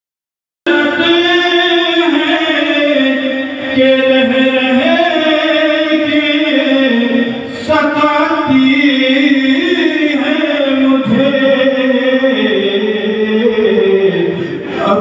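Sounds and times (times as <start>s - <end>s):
man singing through loudspeakers: 0.6s - 15.0s.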